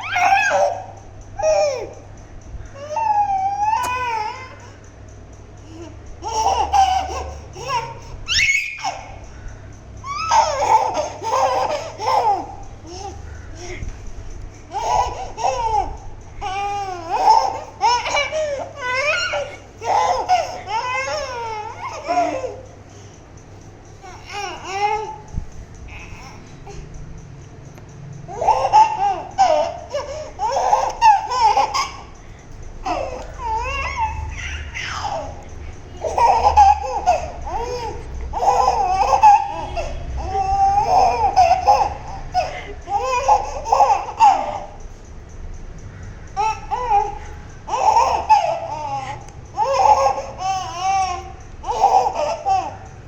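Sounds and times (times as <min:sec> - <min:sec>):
baby laughing: 0:00.0 - 0:02.1, 0:02.8 - 0:04.7, 0:05.7 - 0:09.2, 0:10.0 - 0:13.9, 0:14.6 - 0:22.8, 0:24.0 - 0:25.3, 0:28.3 - 0:32.2, 0:32.8 - 0:44.8, 0:46.4 - 0:53.0.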